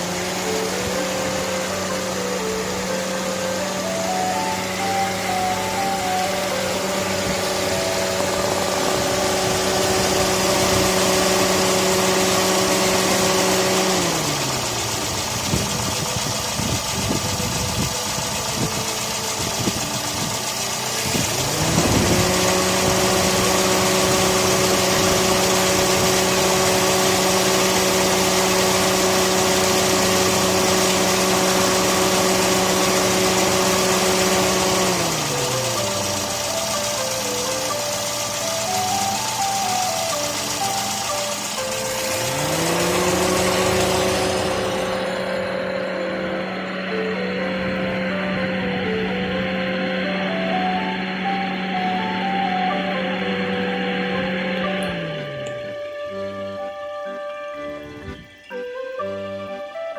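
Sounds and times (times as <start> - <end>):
car engine idling: 0.0 - 59.7
whirring motor hum: 0.0 - 59.9.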